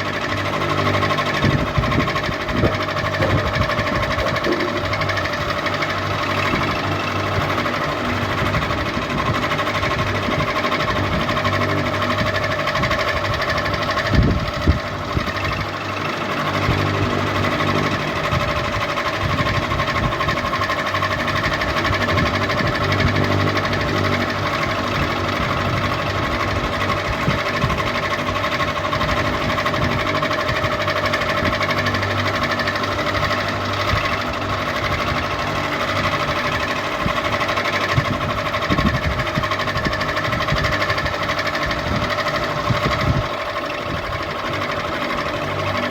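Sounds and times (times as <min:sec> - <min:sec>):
ceiling fan motor hum: 0:00.0 - 0:45.9.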